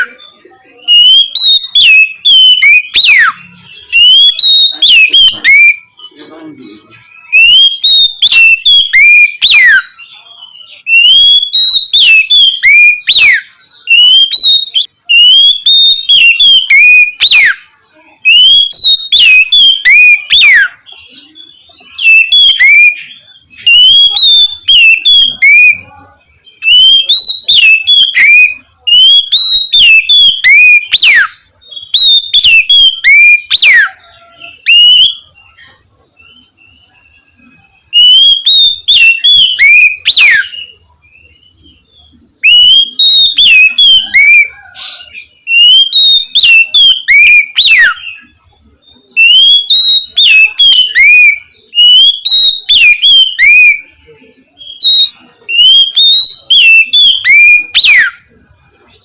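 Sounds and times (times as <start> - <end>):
bird singing whistled notes: 0.0 - 58.6.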